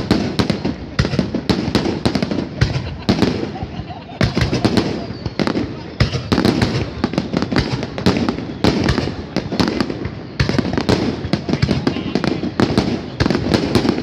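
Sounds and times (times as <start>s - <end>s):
firework crackles: 0.0s - 14.0s
fireworks bursting: 0.0s - 14.0s.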